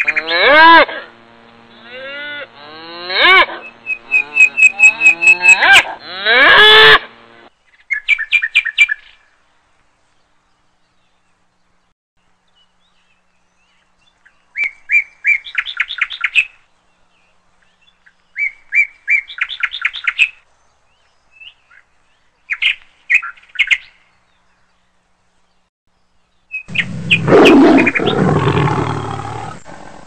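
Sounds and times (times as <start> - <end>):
songbird singing: 3.6 - 5.6, 7.5 - 30.0.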